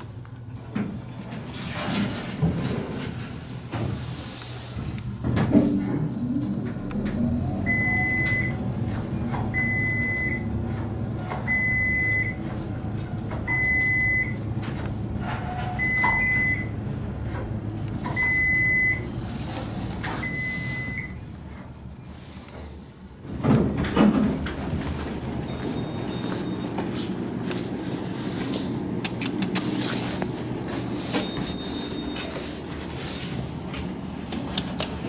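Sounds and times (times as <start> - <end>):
elevator low hum: 0.0 - 35.0.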